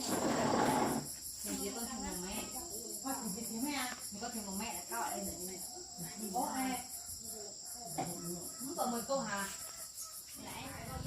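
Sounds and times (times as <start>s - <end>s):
insects chirring: 0.0s - 11.0s
people talking indistinctly: 0.2s - 9.7s, 10.4s - 11.0s.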